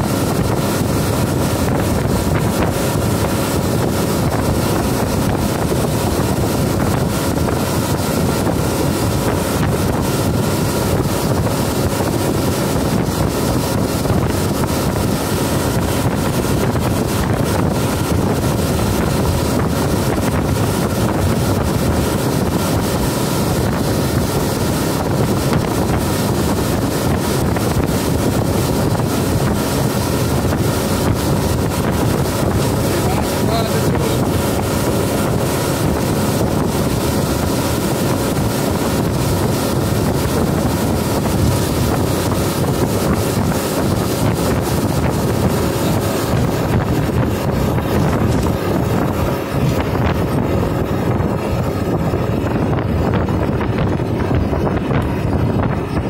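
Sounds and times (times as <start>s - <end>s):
motorboat engine running: 0.0s - 56.0s
rush of boat wake: 0.0s - 56.0s
wind buffeting microphone: 0.0s - 56.0s.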